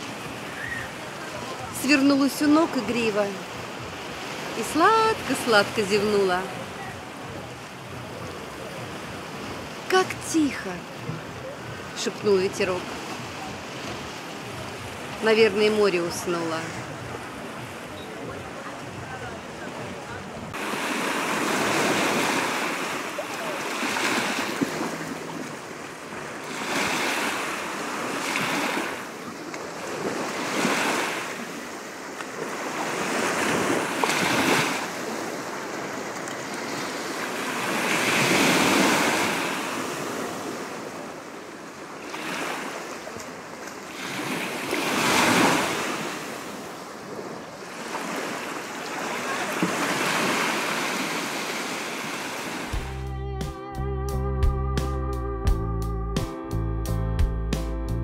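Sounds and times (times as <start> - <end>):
surf breaking on shore: 0.0 - 52.8.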